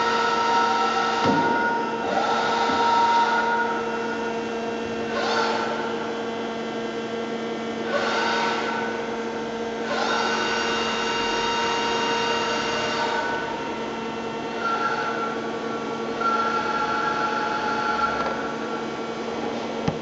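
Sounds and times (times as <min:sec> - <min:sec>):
motor whine rising in pitch: 0:00.0 - 0:19.1
boring mill hum: 0:00.0 - 0:20.0.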